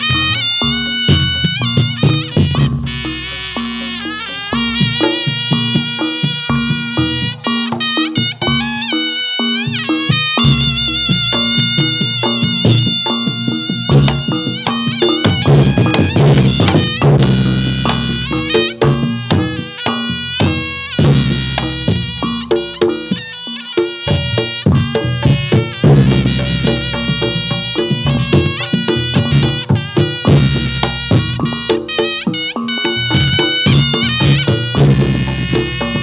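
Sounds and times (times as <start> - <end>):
drums: 0.0 - 36.0
reed shawm melody: 0.0 - 36.0.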